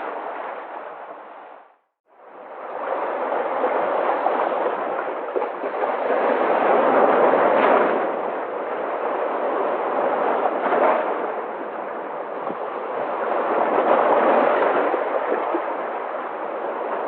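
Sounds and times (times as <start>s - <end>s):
waves breaking on shore: 0.0s - 17.0s.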